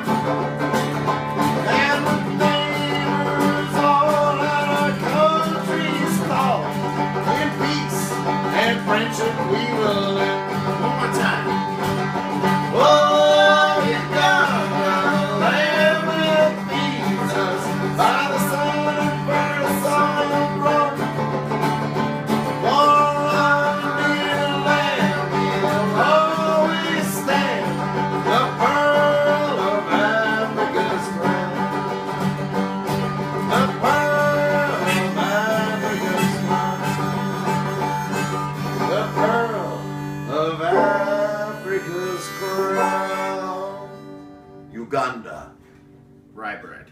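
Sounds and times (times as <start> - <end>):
plucked string accompaniment: 0.0 - 44.8
sliding held melody notes: 0.0 - 44.8.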